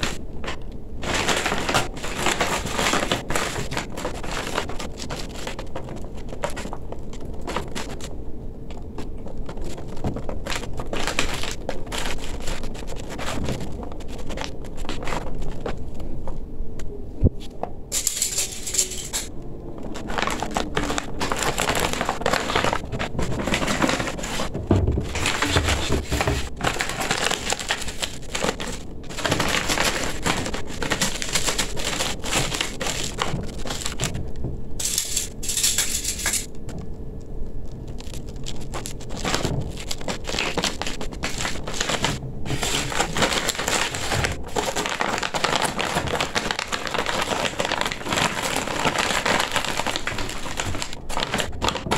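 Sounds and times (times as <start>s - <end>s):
stiff fabric crinkling: 0.0s - 16.1s, 19.8s - 34.3s, 37.6s - 51.9s.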